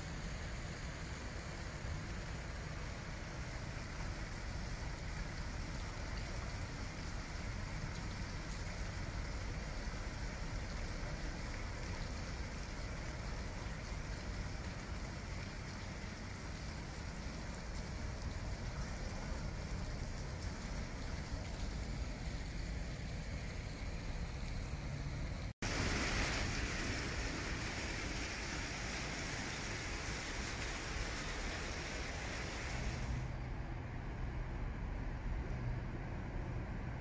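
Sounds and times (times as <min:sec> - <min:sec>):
water rushing along ship hull: 0:00.0 - 0:35.0.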